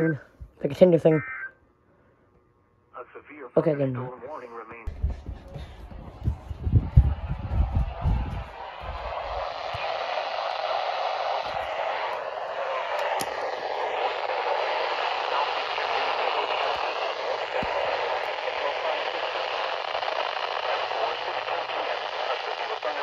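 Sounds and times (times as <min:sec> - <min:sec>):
radio static hiss: 0:03.0 - 0:05.8, 0:06.4 - 0:23.0.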